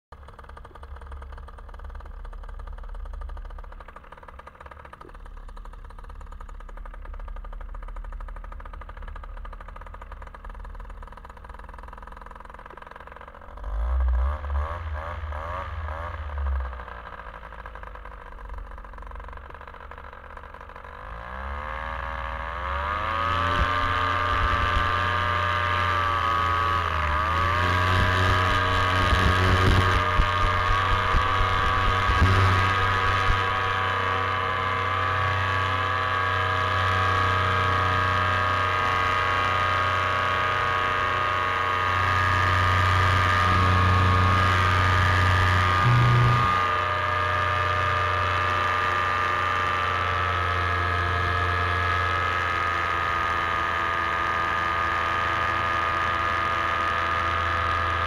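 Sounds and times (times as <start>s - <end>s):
paramotor engine running: 0.1s - 58.0s.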